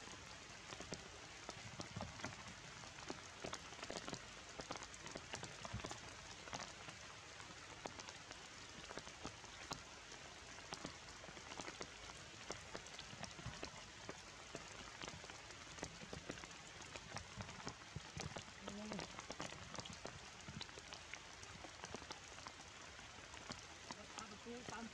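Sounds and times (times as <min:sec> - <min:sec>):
rain falling on leaves: 0:00.0 - 0:24.9.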